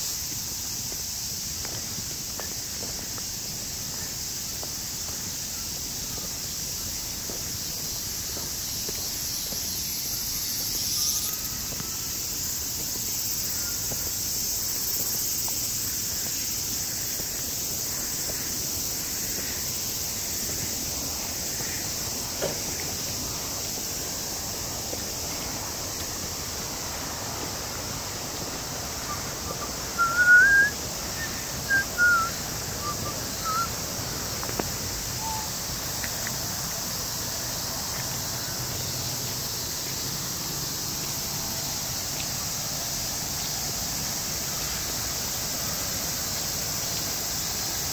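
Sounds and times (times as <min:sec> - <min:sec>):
steady high hiss: 0:00.0 - 0:47.9.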